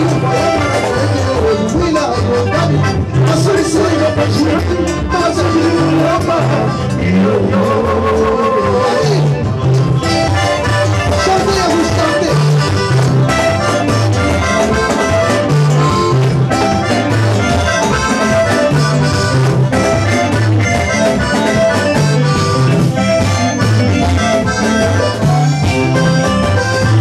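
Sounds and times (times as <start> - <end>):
bass guitar: 0.0 - 27.0
drums: 0.0 - 27.0
electric guitars: 0.0 - 27.0
keyboard: 0.0 - 27.0.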